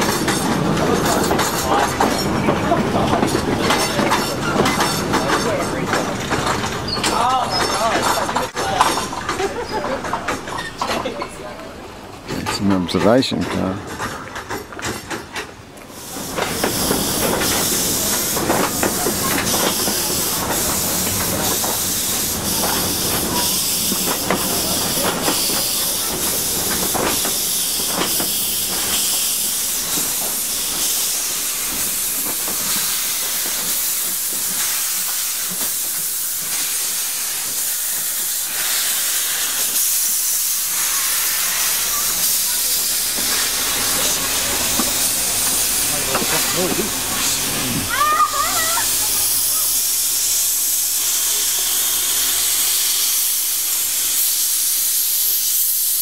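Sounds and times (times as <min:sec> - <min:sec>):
steam locomotive hissing steam: 0:00.0 - 0:11.2, 0:14.4 - 0:56.0.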